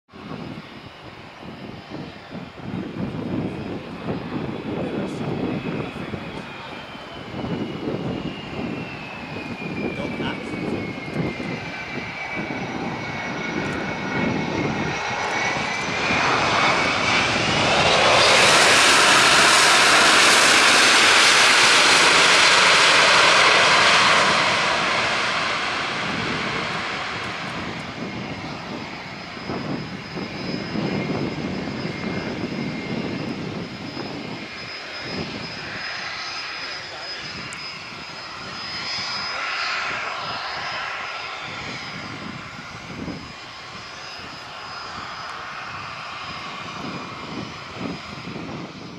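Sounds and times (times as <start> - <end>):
wind buffeting microphone: 0.1 - 36.4, 37.1 - 48.9
jet engine whine and rush: 0.1 - 48.9.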